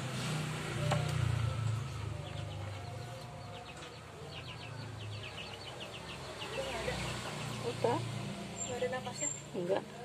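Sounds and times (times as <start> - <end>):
low vehicle engine rumble: 0.0 - 10.0.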